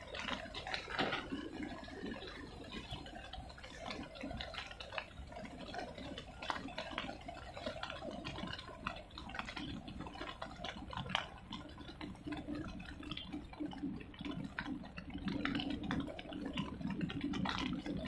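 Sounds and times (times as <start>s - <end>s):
choppy water lapping and splashing: 0.0s - 18.0s.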